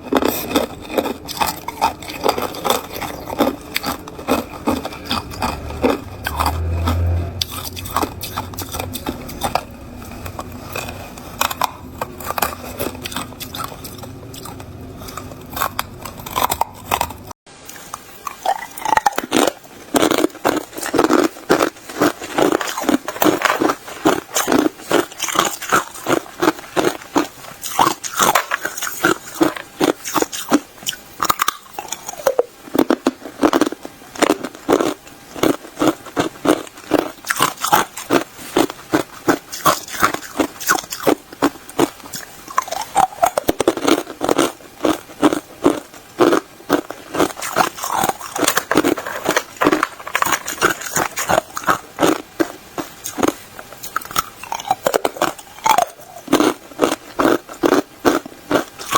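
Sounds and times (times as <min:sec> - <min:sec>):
ice being chewed: 0:00.0 - 0:58.9.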